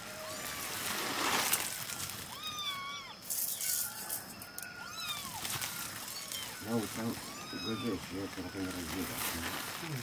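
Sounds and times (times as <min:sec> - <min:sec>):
animal calling: 0:02.0 - 0:10.0.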